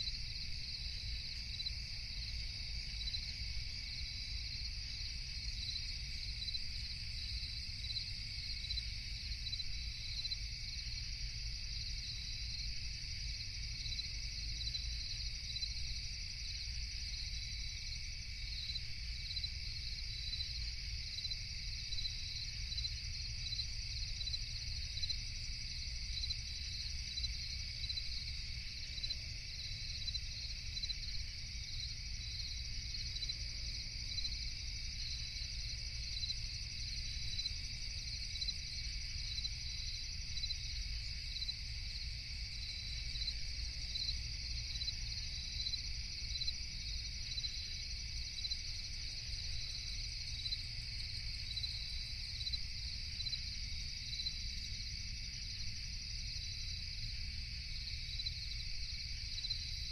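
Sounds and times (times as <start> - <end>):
crickets chirping: 0.0 - 59.9
high pulsing insect trill: 0.0 - 59.9
insect drone: 0.0 - 59.9.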